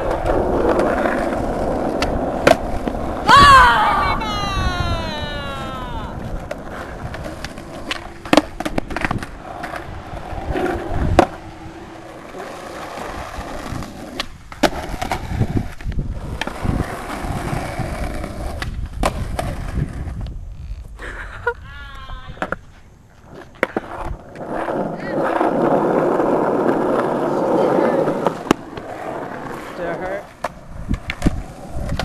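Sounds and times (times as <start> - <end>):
skateboard clacking on pavement: 0.0 - 3.3, 5.5 - 20.3, 23.3 - 32.0
skateboard wheels rolling on asphalt: 0.0 - 32.0.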